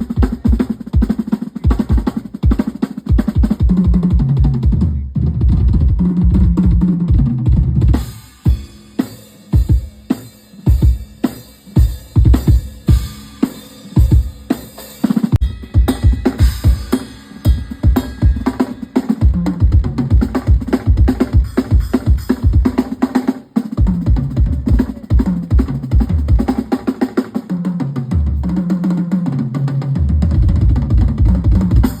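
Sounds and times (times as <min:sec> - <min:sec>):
snare and cymbal hits: 0:00.0 - 0:05.0, 0:07.8 - 0:32.0.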